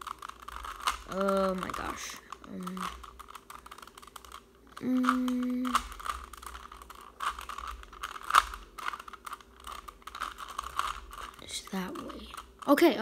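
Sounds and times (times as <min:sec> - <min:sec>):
puzzle cube clicking: 0:00.0 - 0:13.0.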